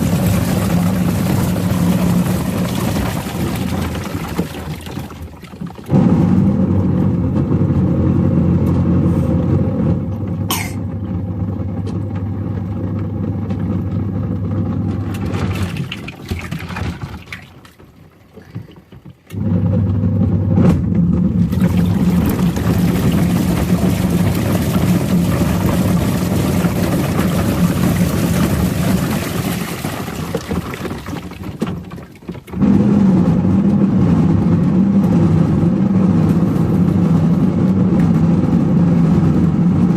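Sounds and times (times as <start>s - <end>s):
washing machine churning: 0.0s - 39.9s.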